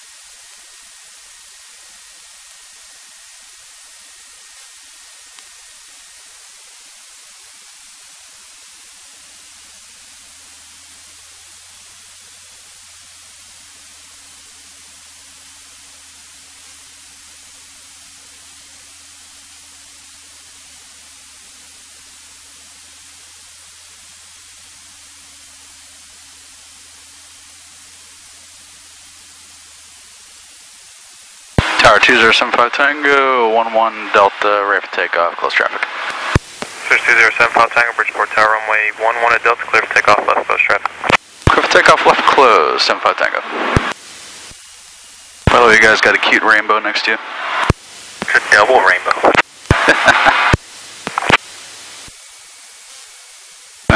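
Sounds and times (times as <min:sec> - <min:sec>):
intercom static hiss: 0:00.0 - 0:53.9.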